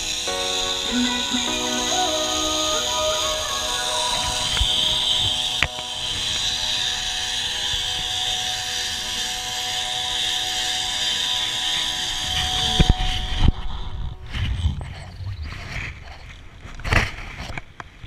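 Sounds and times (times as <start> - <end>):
zip-line trolley whirring on cable: 0.0 - 17.5.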